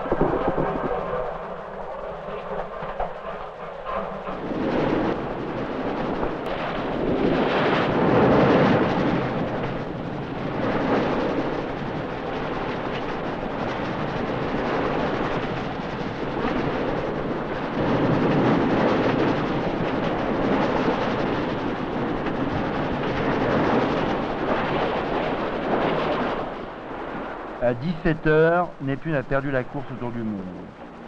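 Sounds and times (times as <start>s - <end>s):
wind: 0.0s - 31.0s
waves breaking along hull: 2.8s - 31.0s.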